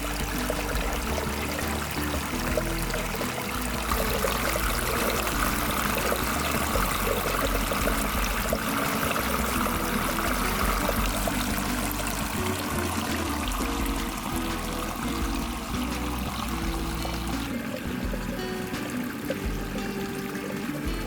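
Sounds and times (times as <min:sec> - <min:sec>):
water flowing: 0:00.0 - 0:21.0.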